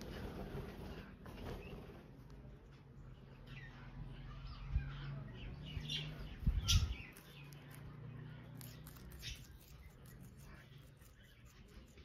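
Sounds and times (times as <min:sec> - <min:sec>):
parrots chirping softly: 0:00.0 - 0:12.0.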